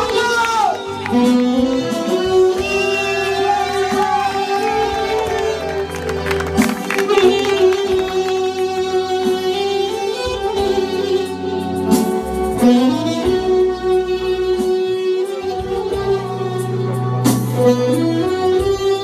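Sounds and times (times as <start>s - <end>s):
band playing instrumental music: 0.0s - 19.0s.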